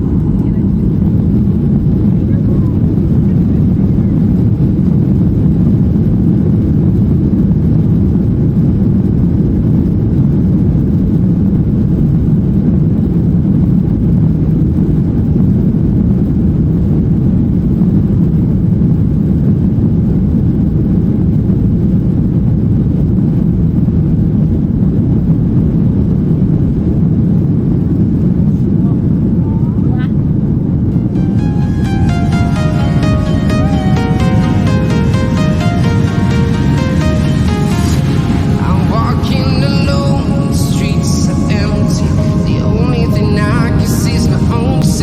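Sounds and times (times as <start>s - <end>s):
jet airliner cabin rumble: 0.0s - 45.0s.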